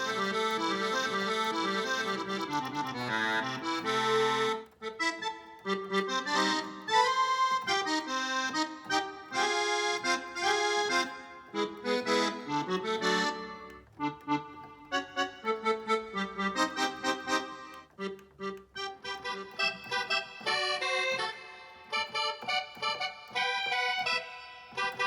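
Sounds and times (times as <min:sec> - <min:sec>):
keyboard accordion melody: 0:00.0 - 0:25.0.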